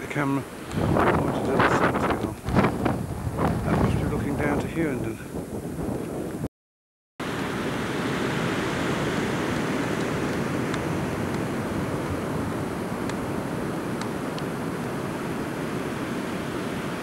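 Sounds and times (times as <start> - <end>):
wind on microphone: 0.0 - 6.5, 7.5 - 17.0.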